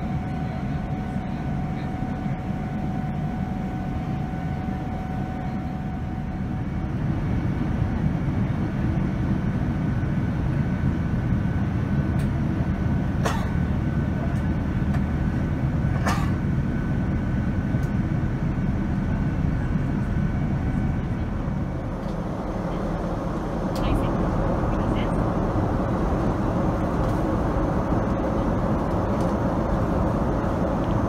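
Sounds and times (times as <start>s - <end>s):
aircraft cabin engine rumble: 0.0s - 31.0s
faint engine whine: 0.0s - 31.0s.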